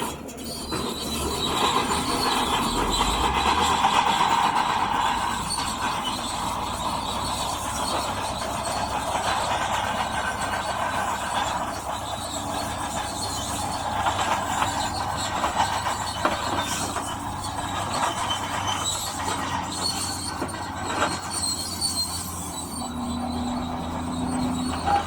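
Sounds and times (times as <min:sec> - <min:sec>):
diesel engine hum: 0:00.0 - 0:25.0
steel tracks squeaking and clattering: 0:00.0 - 0:25.0.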